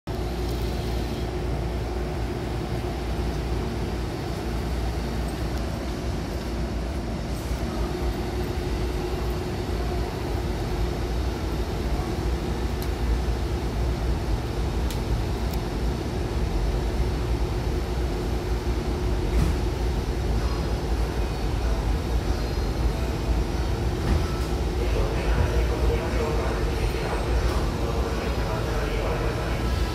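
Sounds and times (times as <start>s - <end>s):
train humming at platform: 0.1s - 29.9s.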